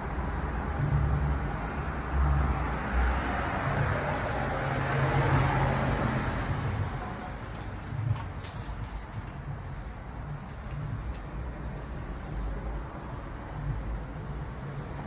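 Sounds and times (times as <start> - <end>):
street traffic rumble: 0.0 - 15.0
vehicle passing: 0.3 - 15.0.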